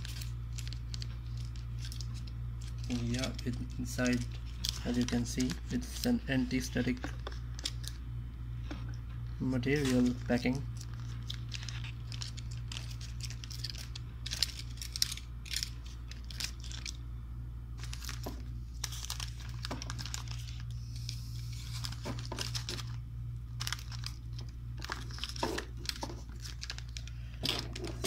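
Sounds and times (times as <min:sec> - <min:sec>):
plastic pouch tearing and crinkling: 0:00.0 - 0:08.0, 0:09.6 - 0:17.0, 0:17.8 - 0:28.0
steady low hum: 0:00.0 - 0:28.0.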